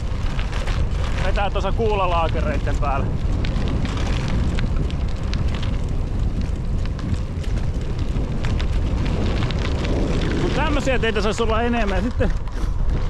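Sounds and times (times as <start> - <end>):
bicycle tyres rolling on gravel: 0.0 - 13.0
wind rumble on microphone: 0.0 - 13.0.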